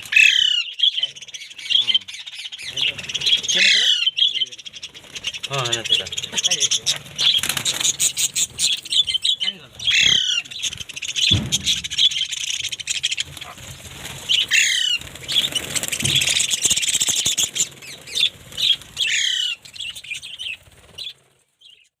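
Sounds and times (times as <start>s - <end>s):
small parrots chattering: 0.0s - 21.8s.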